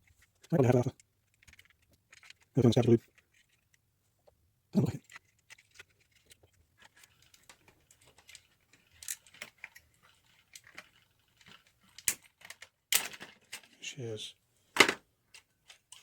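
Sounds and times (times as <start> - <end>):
small plastic parts clicking: 0.1 - 13.8, 14.8 - 16.0.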